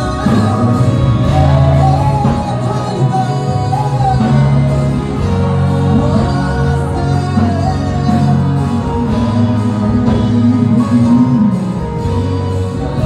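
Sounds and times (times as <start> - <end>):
backing band with steady beat: 0.0 - 13.0
group singing gospel music: 0.0 - 13.0.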